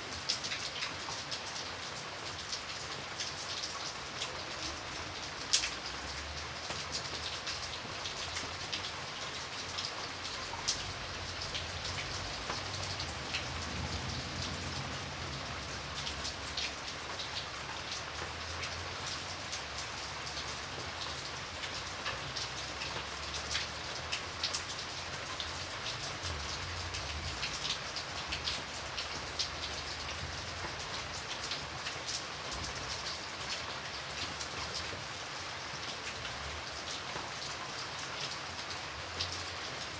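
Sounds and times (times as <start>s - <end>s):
raindrops ticking close by: 0.0s - 39.9s
steady rain falling: 0.0s - 39.9s.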